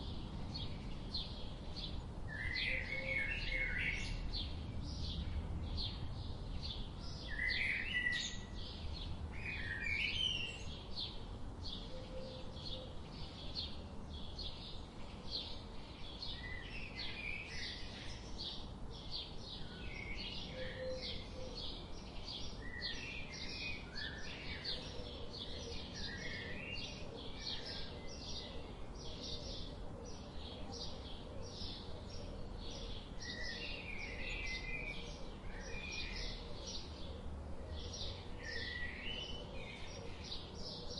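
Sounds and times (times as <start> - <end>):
songbird high chirps: 0.0 - 37.1.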